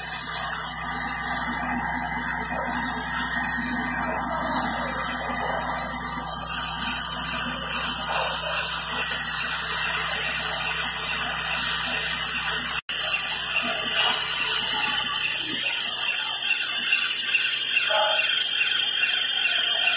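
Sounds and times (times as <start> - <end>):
machine hissing and humming: 0.0 - 19.9.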